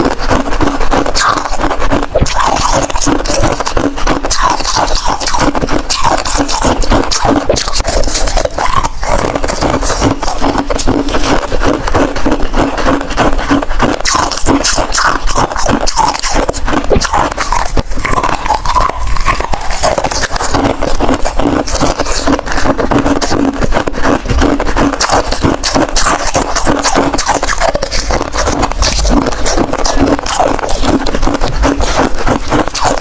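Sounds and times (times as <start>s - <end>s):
ice crunching and chewing: 0.0s - 33.0s.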